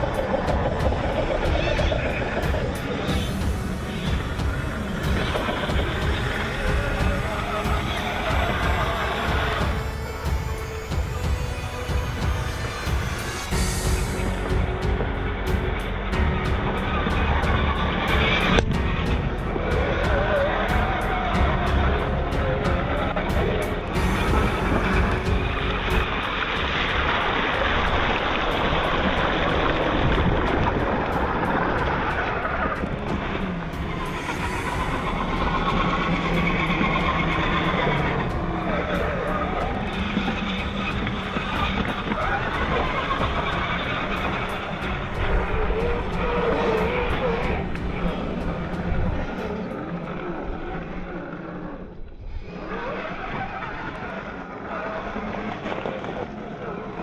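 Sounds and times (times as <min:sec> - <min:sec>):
tyres churning through mud: 0:00.0 - 0:51.8, 0:52.5 - 0:57.0.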